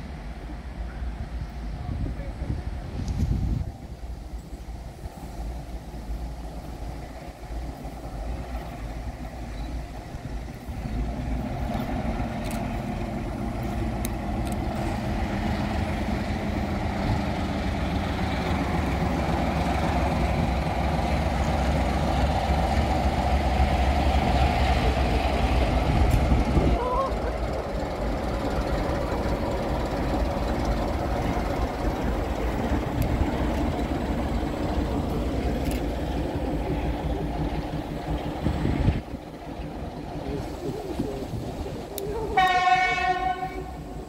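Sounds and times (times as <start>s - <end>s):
diesel locomotive engine running: 0.0s - 44.0s.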